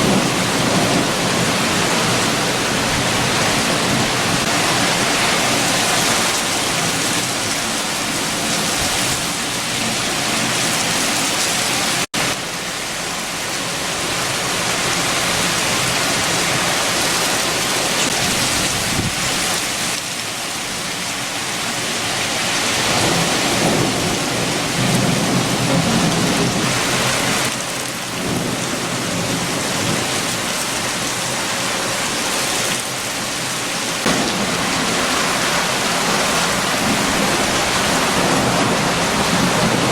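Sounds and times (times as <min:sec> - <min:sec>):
strong wind: 0:00.0 - 0:12.4, 0:13.2 - 0:39.9
heavy rain: 0:00.0 - 0:39.9.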